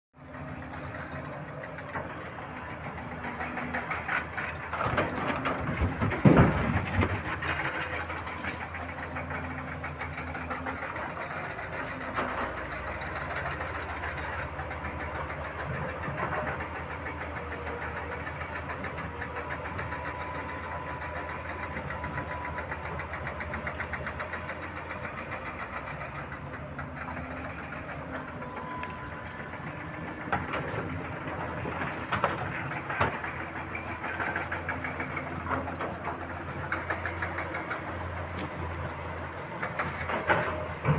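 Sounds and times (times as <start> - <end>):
excavator diesel engine running: 0.2 - 40.9.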